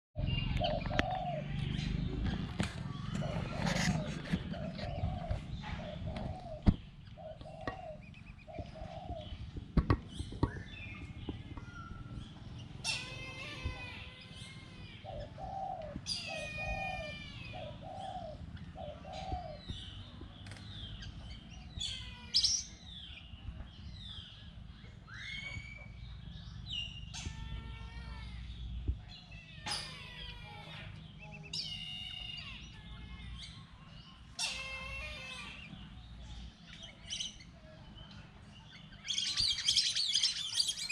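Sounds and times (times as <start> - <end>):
ducklings peeping: 0.2 - 37.6, 38.4 - 40.9.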